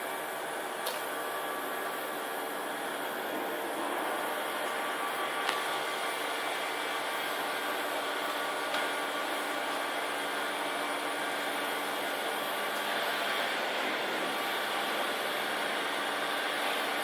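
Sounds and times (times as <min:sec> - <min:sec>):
cooling fans whirring: 0:00.0 - 0:17.0.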